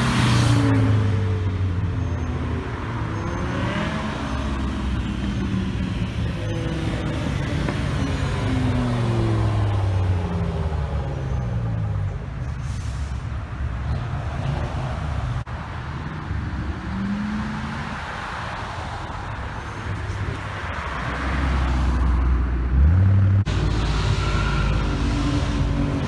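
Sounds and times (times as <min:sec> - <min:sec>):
engine revving: 0:00.0 - 0:12.4, 0:16.5 - 0:26.0
car engines running: 0:00.0 - 0:26.0.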